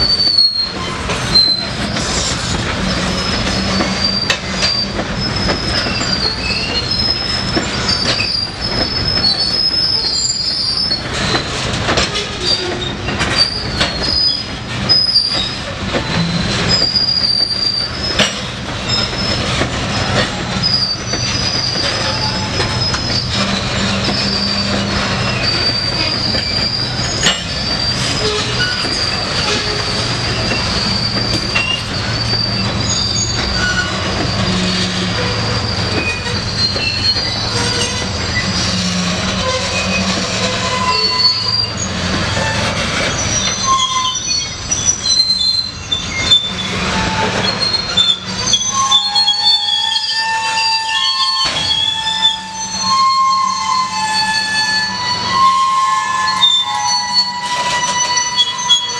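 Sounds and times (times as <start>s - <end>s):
low rumble of train: 0.0s - 58.9s
train wheels squealing on rails: 0.0s - 58.9s
wheels clicking over rail joints: 0.2s - 50.4s.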